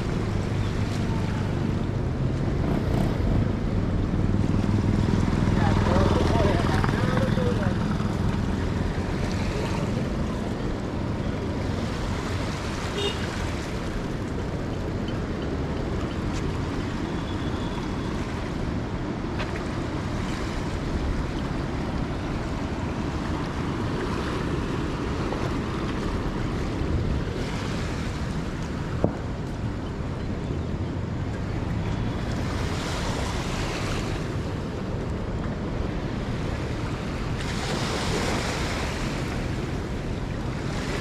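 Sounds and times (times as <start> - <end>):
floodwater roaring: 0.0 - 41.0.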